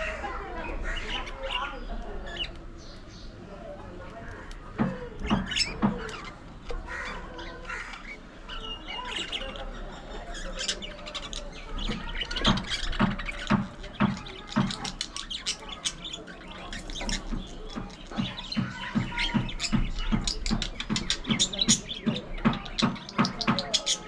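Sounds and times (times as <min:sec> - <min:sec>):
budgerigars chattering: 0:00.0 - 0:03.4, 0:04.3 - 0:24.0.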